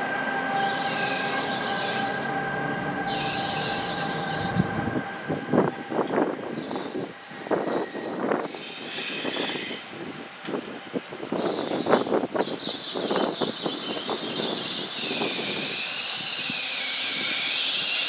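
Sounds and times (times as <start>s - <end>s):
electric train whine: 0.0s - 18.0s
train wheels squealing and clattering: 0.5s - 10.3s, 11.3s - 18.0s.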